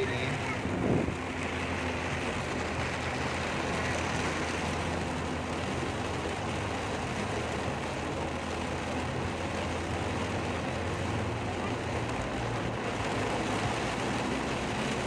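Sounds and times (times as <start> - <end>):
car engine and road noise: 0.0 - 15.0
heavy rain hissing: 0.0 - 15.0.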